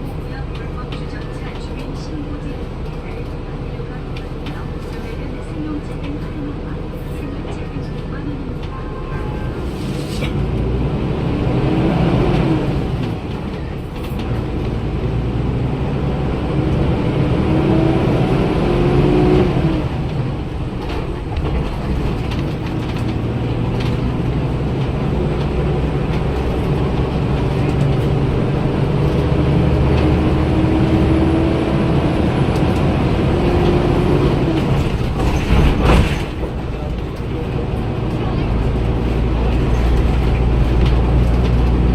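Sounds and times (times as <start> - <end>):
bus diesel engine droning: 0.0 - 41.9.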